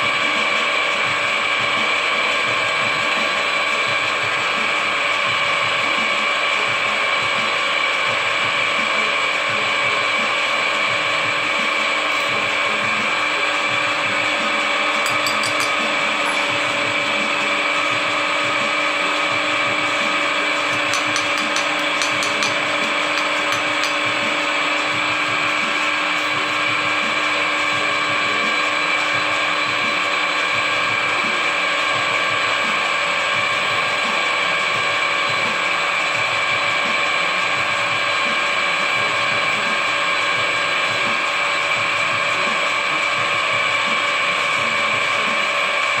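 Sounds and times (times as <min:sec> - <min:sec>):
drill press motor whining: 0:00.0 - 0:46.0.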